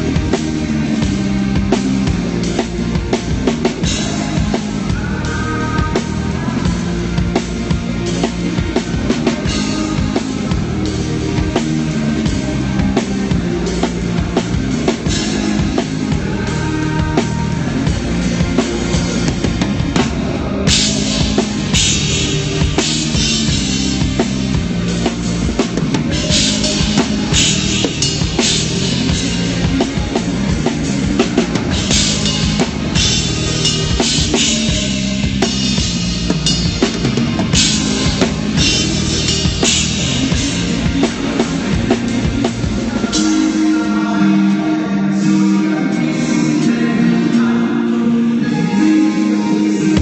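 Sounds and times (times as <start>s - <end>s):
bass drum: 0.0s - 43.4s
rock band music over sound system: 0.0s - 50.0s.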